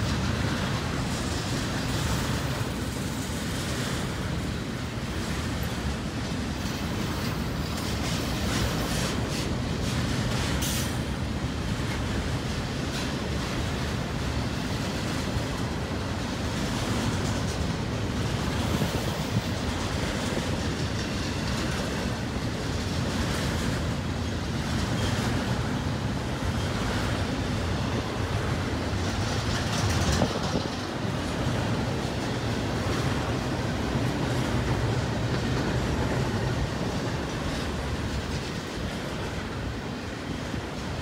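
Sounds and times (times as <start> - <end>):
rail cars rattling: 0.0 - 41.0
steel wheels on rail: 0.0 - 41.0.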